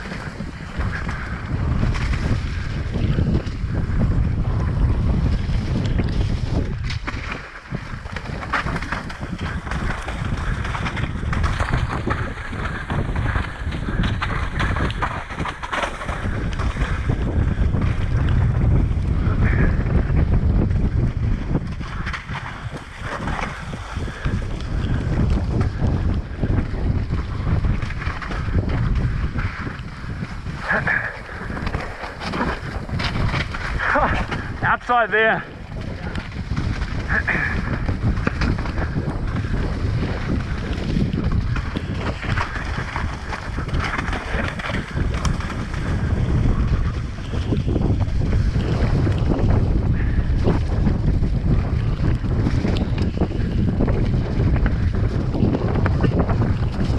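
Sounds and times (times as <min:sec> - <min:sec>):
bike clattering over rock: 0:00.0 - 0:56.9
bike tyres rolling: 0:00.0 - 0:56.9
wind buffeting microphone: 0:00.0 - 0:56.9.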